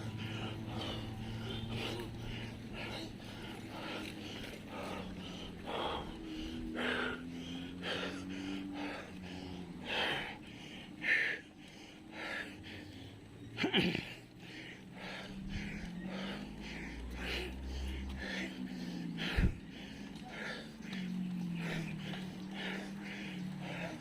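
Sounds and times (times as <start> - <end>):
cyclist breathing hard: 0.0 - 24.0
faint low steady hum: 0.0 - 24.0.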